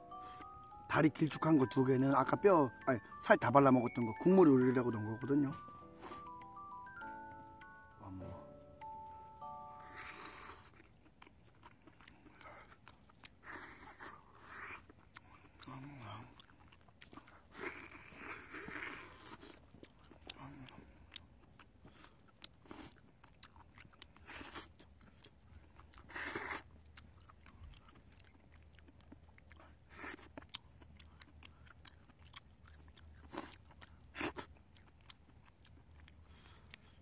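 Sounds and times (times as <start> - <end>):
person chewing crab meat: 0.0 - 7.8, 8.8 - 37.0.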